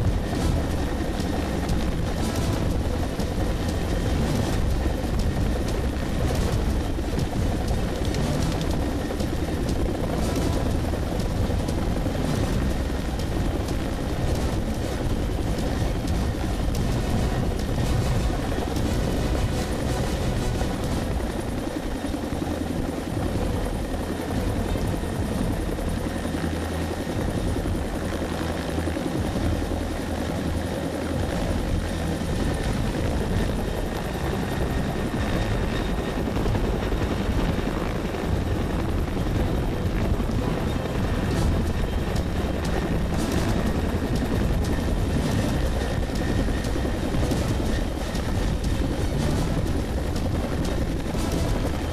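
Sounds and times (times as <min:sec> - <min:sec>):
helicopter hovering overhead: 0:00.0 - 0:51.9.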